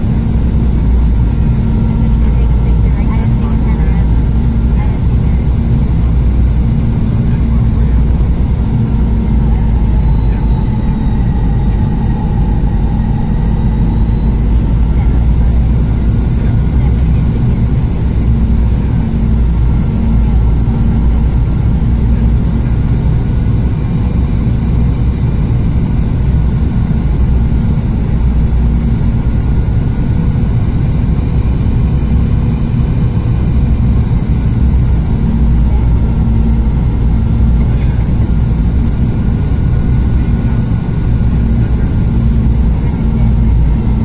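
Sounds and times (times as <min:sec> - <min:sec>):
aircraft cabin rumble: 0:00.0 - 0:44.0.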